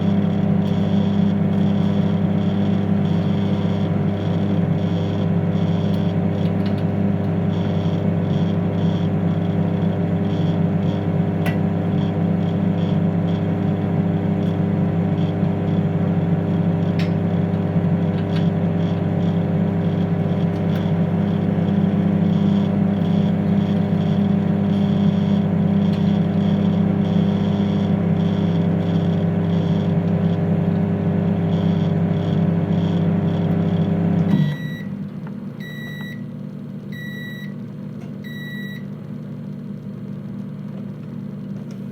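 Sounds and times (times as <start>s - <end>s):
microwave oven humming: 0.0s - 41.9s.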